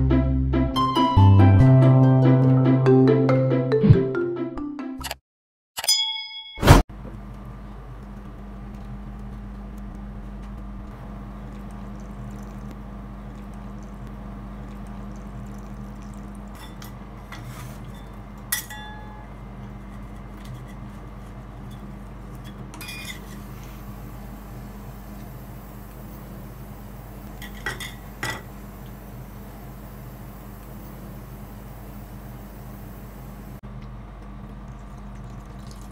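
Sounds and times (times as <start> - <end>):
ice cream machine humming: 6.9 - 35.9.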